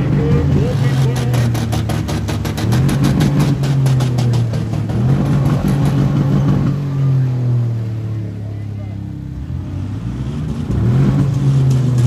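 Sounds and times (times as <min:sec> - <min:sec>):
engines droning loudly: 0:00.0 - 0:12.0.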